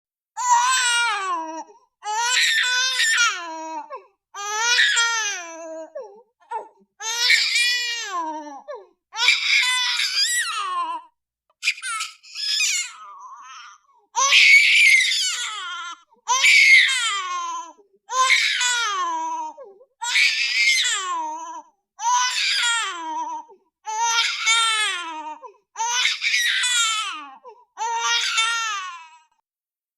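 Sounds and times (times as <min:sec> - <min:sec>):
baby crying: 0:00.4 - 0:29.4.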